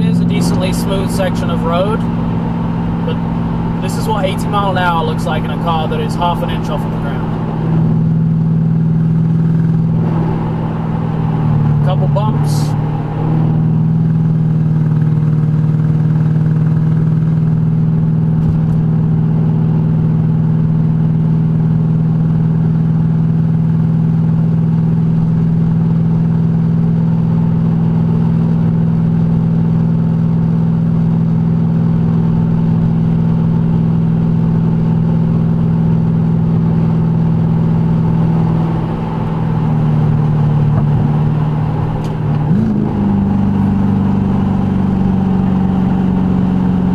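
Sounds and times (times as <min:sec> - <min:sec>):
car engine at cruising speed: 0:00.0 - 0:46.9.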